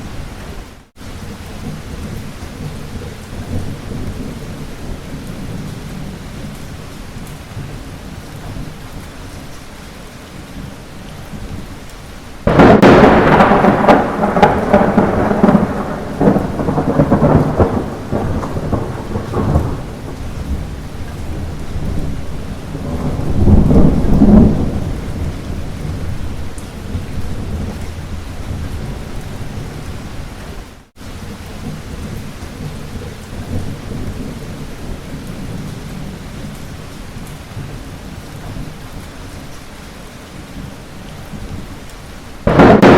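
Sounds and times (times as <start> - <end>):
thunder rumbling: 0.0 - 9.2, 12.4 - 30.7, 31.5 - 39.1, 42.4 - 42.9
light rain: 0.0 - 42.9.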